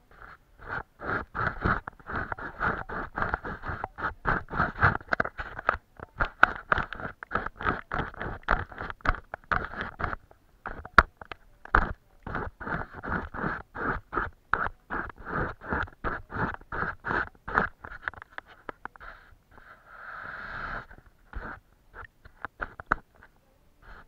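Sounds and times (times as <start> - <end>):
paintbrush scratching on paper: 0.0 - 24.0.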